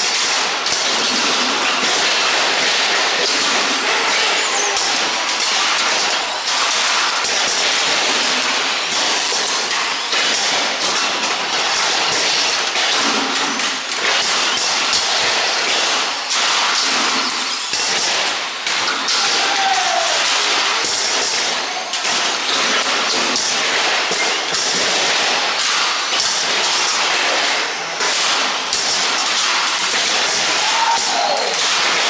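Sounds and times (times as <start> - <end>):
toy cars knocking and clattering: 0.0 - 32.0.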